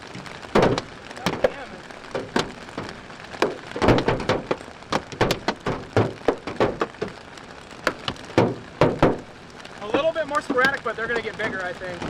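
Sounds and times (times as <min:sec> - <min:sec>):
hailstones striking a vehicle: 0:00.0 - 0:12.0.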